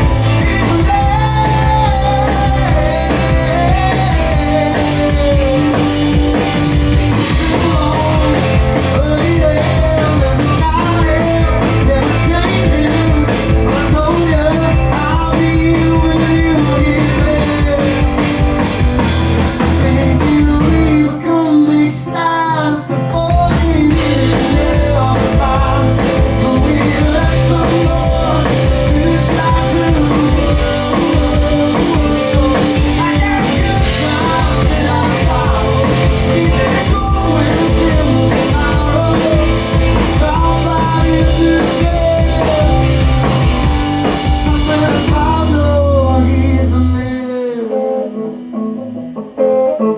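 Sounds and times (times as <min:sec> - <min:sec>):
electric guitar: 0:00.0 - 0:49.9
live rock band playing: 0:00.0 - 0:49.9.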